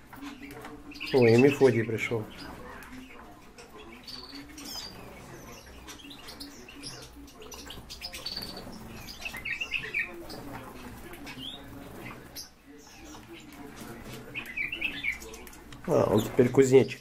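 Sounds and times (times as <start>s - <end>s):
songbirds chirping: 0.0s - 17.0s
wing flutters: 2.2s - 16.5s.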